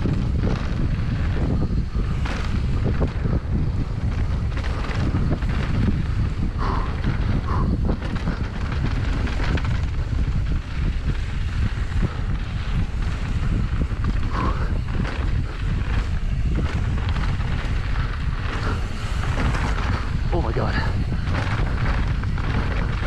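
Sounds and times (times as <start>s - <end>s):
bike clattering over rough ground: 0.0s - 23.0s
wind buffeting microphone: 0.0s - 23.0s.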